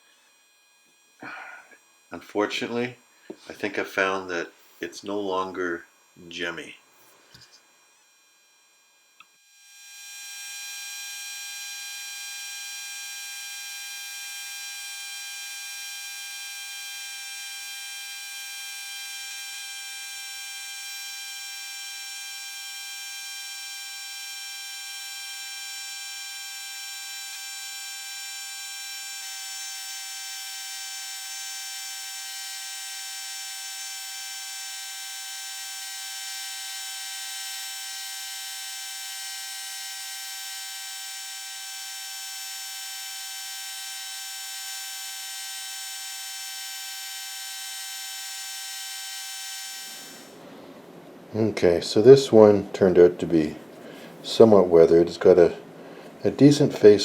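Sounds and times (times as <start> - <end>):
air scribe high-pitched buzz: 0.0 - 50.7.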